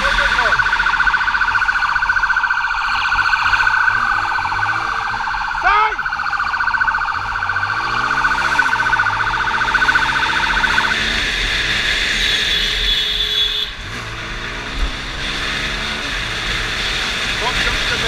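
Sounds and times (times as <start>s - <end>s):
police siren warbling: 0.0s - 12.1s, 14.6s - 18.0s
motorcycle engine revving: 3.2s - 18.0s.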